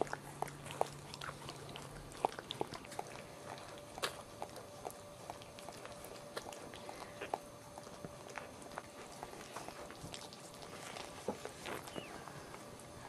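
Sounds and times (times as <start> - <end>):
dog licking puppy: 0.0 - 13.0.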